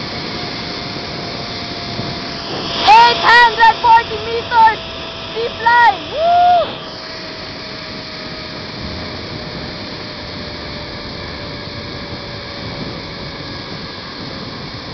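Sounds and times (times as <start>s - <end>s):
wind rushing over microphone: 0.0s - 14.9s
zipline trolley whining on cable: 0.0s - 14.9s.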